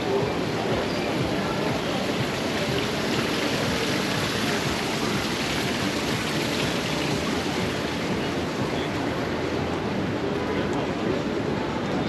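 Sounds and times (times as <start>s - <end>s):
faint voices of passers-by: 0.0s - 12.0s
street ambience noise: 0.0s - 12.0s.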